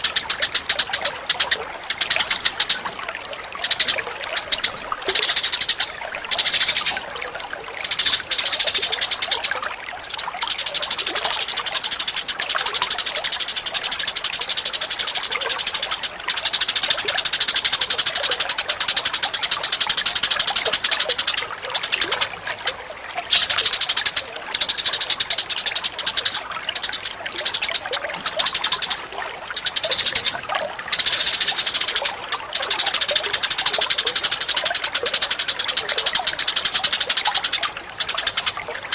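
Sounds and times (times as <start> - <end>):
bird trilling chatter: 0.0 - 2.9, 3.5 - 7.0, 7.8 - 38.6.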